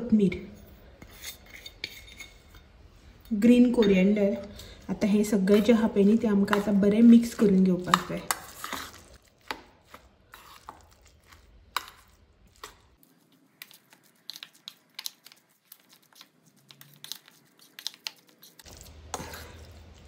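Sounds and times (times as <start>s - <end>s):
spoon scraping metal bowl: 0.6s - 20.0s.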